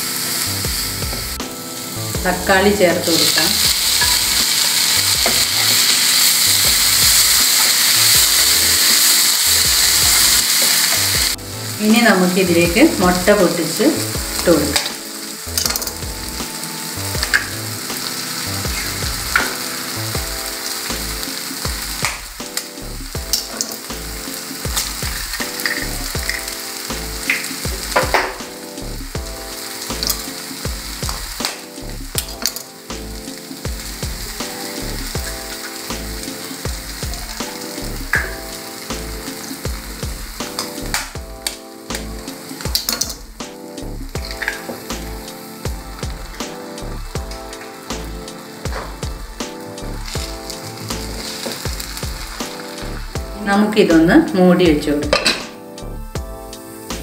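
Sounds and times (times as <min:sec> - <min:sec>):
food sizzling in butter: 0:00.0 - 0:57.0.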